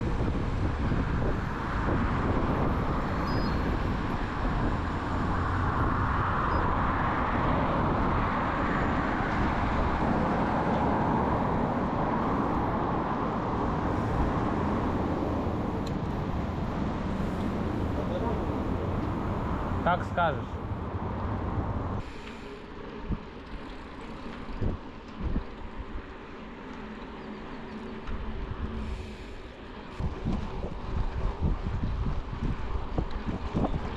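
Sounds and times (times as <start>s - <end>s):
road traffic rumble: 0.0s - 31.4s.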